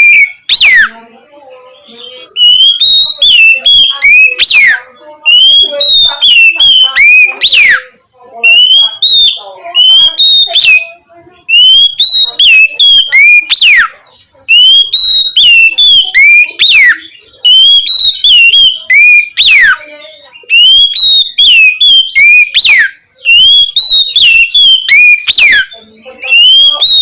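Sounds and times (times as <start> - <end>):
bird whistling song: 0.0 - 27.0.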